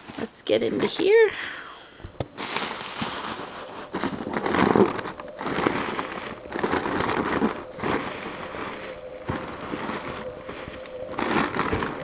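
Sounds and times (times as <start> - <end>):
plastic and foil crinkling: 2.3 - 12.0.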